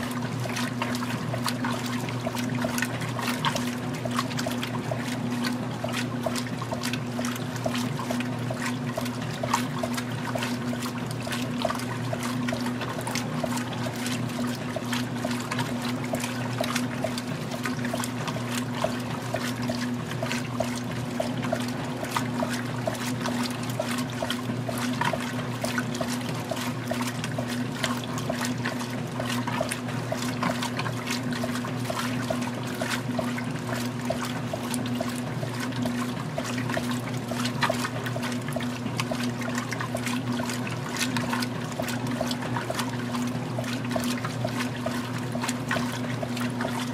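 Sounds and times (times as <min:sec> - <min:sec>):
washer motor hum: 0:00.0 - 0:46.9
water sloshing in washer: 0:00.0 - 0:46.9.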